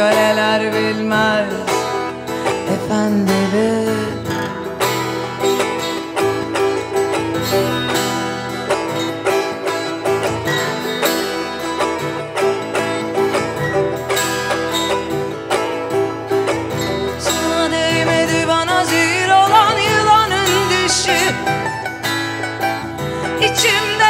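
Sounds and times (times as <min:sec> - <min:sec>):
long-necked lute picked quickly: 0:00.0 - 0:24.0
strummed acoustic guitar: 0:00.0 - 0:24.0.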